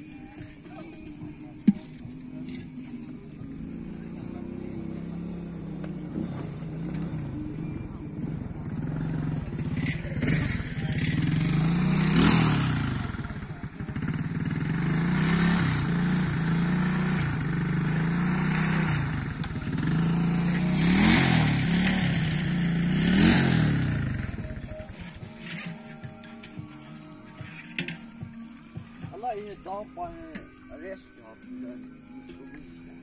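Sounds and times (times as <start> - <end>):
engine running and revving: 1.6 - 28.9.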